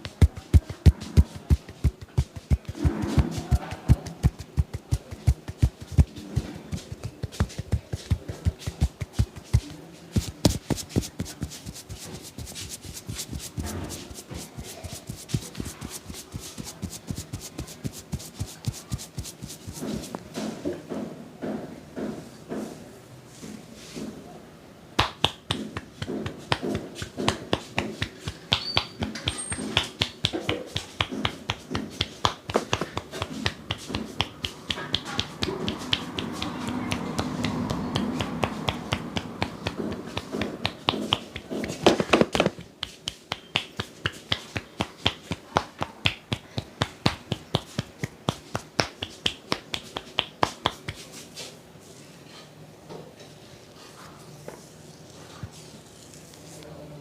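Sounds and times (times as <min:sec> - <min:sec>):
hands slapping skin: 0:00.0 - 0:20.2, 0:25.0 - 0:51.2
hands rubbing: 0:00.0 - 0:20.4, 0:25.0 - 0:52.0.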